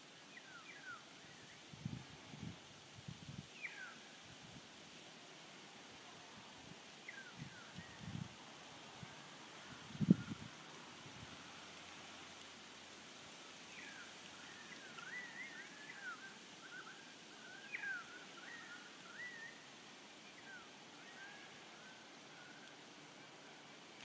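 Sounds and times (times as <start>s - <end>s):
faint outdoor hiss: 0.0s - 24.0s.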